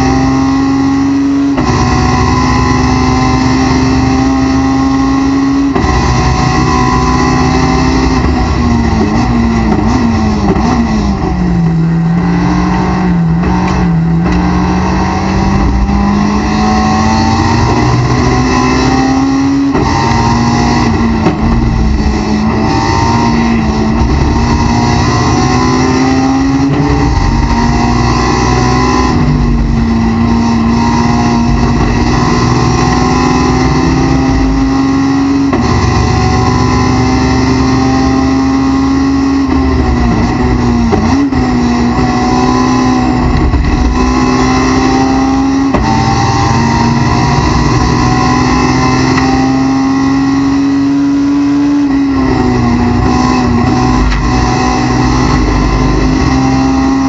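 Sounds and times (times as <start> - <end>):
race car engine at full throttle: 0.0 - 57.0.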